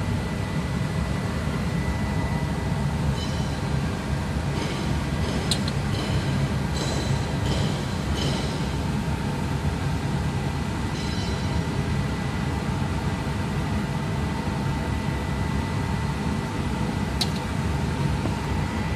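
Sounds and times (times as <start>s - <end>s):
machinery low rumble: 0.0s - 18.9s.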